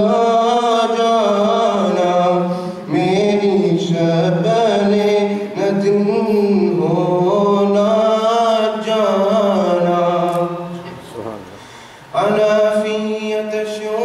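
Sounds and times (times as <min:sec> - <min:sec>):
man chanting: 0:00.0 - 0:11.6, 0:12.2 - 0:14.0.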